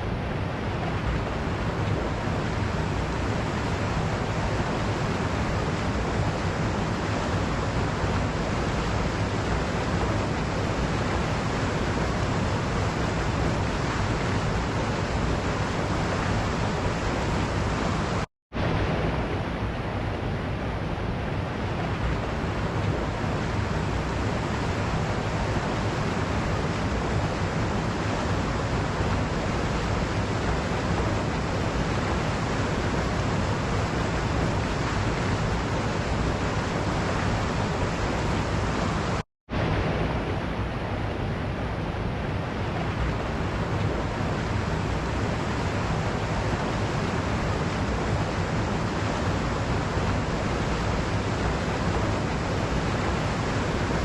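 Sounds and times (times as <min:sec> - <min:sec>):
waterfall rushing: 0:00.7 - 0:19.4, 0:21.6 - 0:41.4, 0:42.4 - 0:54.0.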